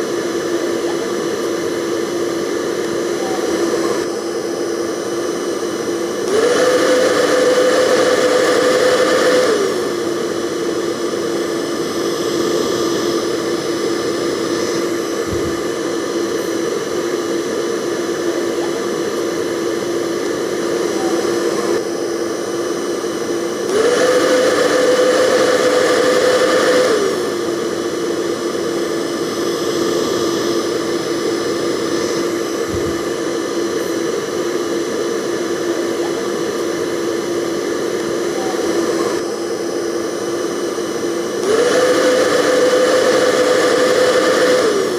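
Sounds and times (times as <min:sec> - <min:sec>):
hair dryer running: 0:00.0 - 0:44.9.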